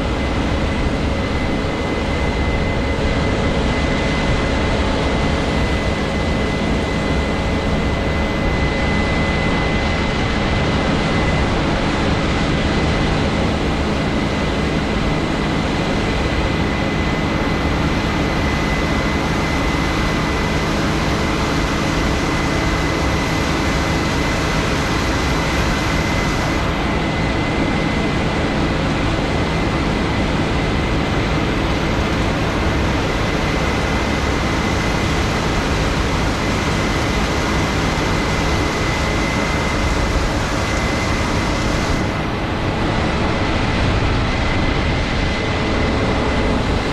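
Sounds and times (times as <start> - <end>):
combine harvester drone: 0.0 - 46.9
high machine whine: 0.0 - 46.9.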